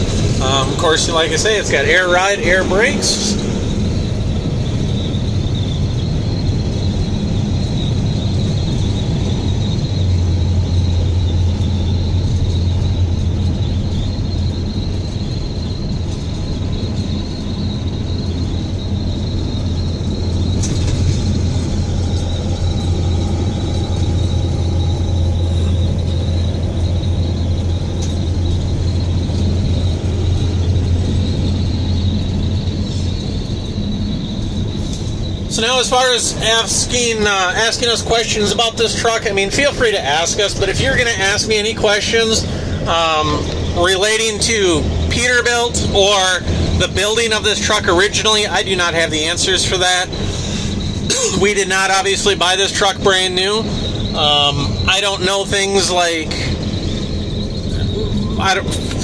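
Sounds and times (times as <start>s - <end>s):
low steady drone: 0.0s - 59.0s
truck diesel engine running: 0.0s - 59.0s
tyre and road noise: 0.0s - 59.0s.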